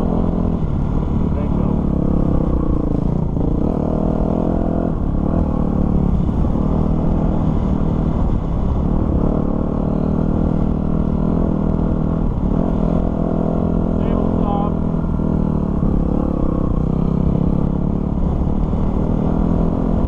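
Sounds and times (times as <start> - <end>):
dirt bike engine revving: 0.0 - 20.0
wind and road noise: 0.0 - 20.0.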